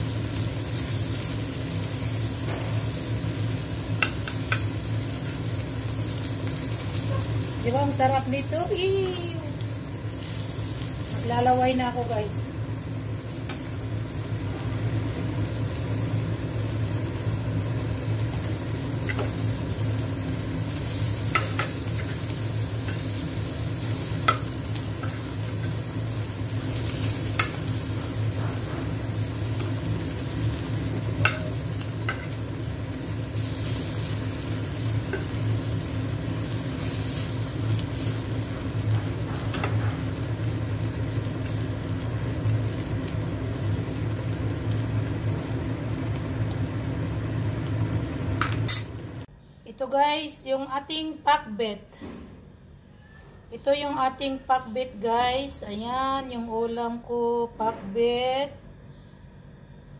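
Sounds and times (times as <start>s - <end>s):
fish sizzling in a pan: 0.0s - 49.3s.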